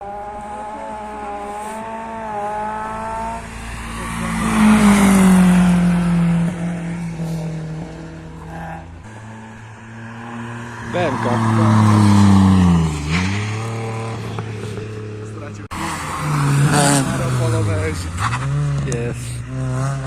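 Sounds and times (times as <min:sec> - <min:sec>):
rally car driving past: 0:00.0 - 0:20.0.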